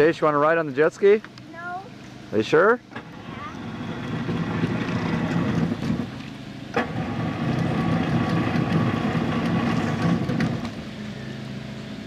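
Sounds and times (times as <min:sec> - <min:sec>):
engine running unevenly: 0:00.0 - 0:12.0.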